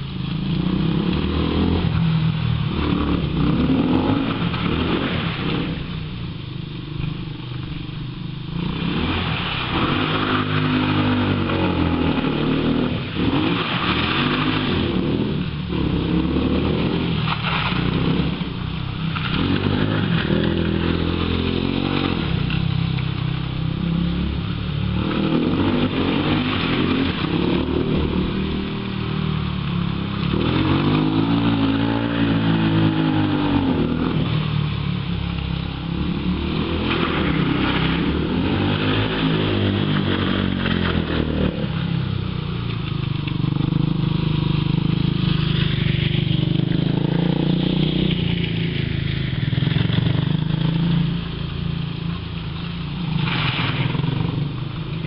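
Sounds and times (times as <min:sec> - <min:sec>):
quad engine revving: 0:00.0 - 0:06.0, 0:08.5 - 0:51.4.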